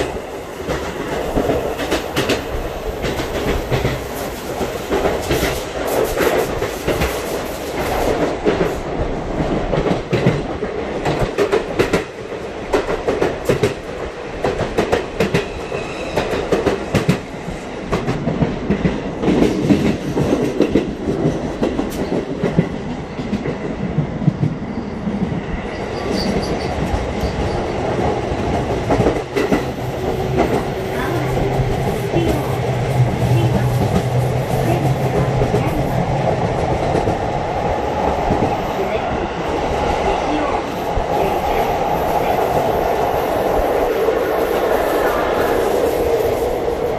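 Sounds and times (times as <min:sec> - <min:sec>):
train running rumble: 0:00.0 - 0:46.9.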